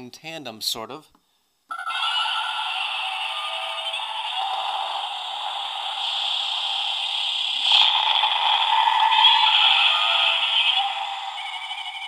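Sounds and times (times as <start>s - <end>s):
tinny electronic monster roars: 1.7s - 12.0s.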